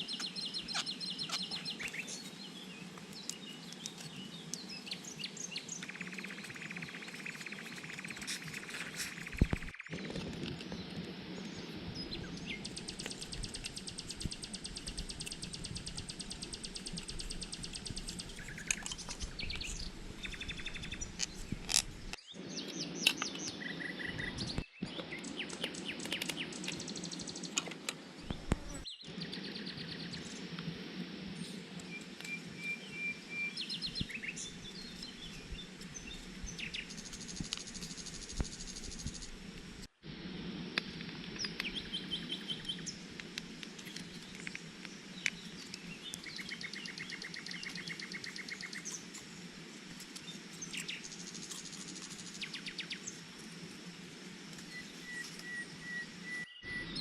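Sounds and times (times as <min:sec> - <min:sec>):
outdoor background hiss: 0:00.0 - 0:57.0
wild birds chirping: 0:00.0 - 0:57.0.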